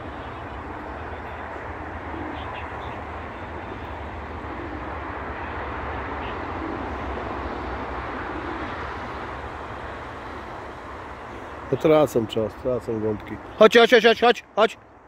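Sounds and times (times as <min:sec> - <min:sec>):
outdoor background rumble: 0:00.0 - 0:13.6.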